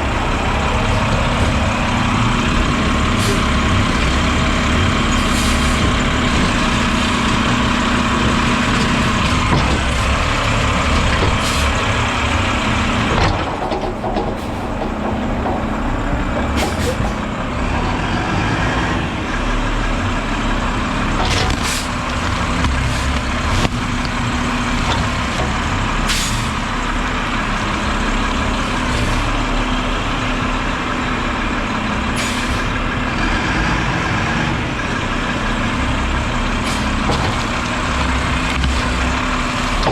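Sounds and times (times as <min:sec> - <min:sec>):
garbage truck engine and hydraulic drone: 0:00.0 - 0:39.9.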